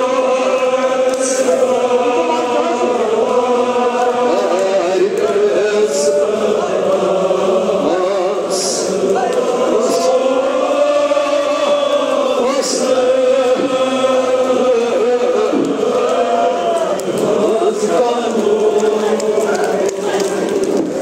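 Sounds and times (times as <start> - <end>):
men chanting a lament in chorus: 0.0 - 20.3.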